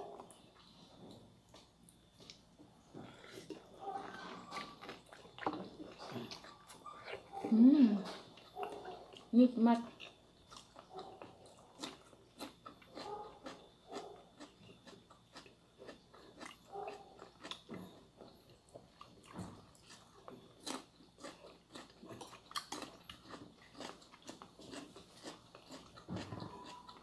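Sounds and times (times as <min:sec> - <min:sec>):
chewing crunchy cucumber: 0:00.0 - 0:27.0.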